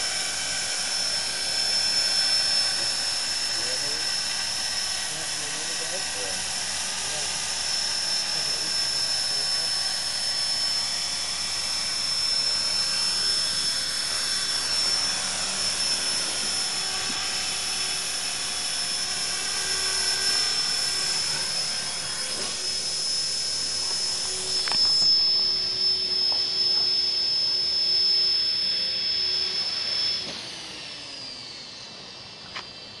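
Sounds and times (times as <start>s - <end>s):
rotor noise: 0.0s - 31.9s
rc helicopter motor whine: 0.0s - 33.0s.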